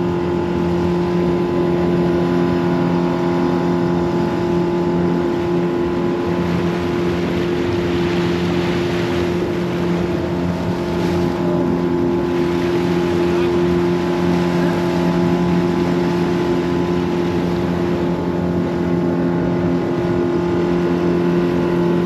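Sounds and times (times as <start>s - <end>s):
outboard motor running: 0.0s - 22.0s
water rushing past hull: 0.0s - 22.0s.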